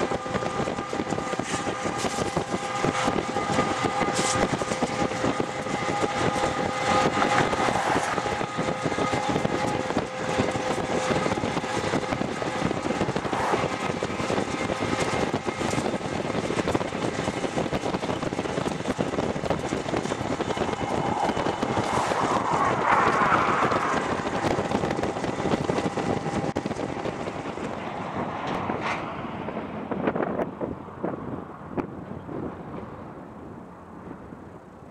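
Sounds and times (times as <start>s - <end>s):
diesel locomotives running: 0.0s - 34.9s
road and wind noise: 0.0s - 34.9s.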